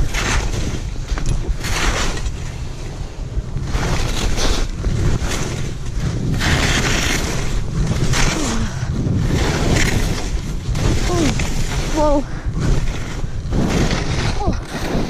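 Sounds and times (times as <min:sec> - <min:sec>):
skis carving through snow: 0:00.0 - 0:15.0
wind buffeting microphone: 0:00.0 - 0:15.0.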